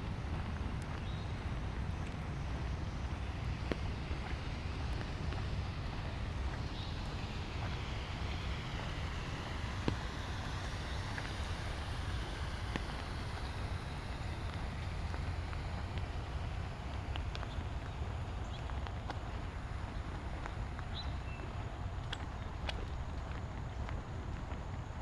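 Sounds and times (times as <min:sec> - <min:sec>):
faint rain drop ticks: 0:00.0 - 0:25.0
low rumble and hiss: 0:00.0 - 0:25.0
tyres swishing on wet pavement: 0:00.0 - 0:25.0.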